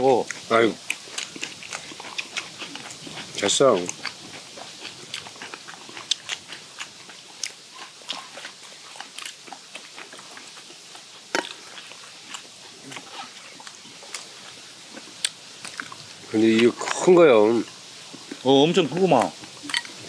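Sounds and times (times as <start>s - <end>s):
people chewing and crunching: 0.0s - 20.0s.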